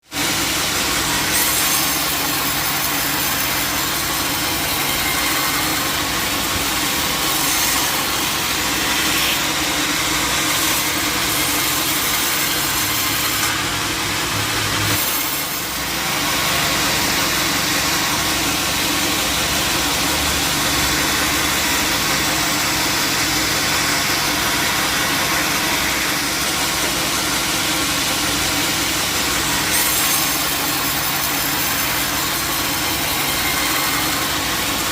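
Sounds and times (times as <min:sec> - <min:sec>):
saw cutting through wood: 0:00.0 - 0:34.9.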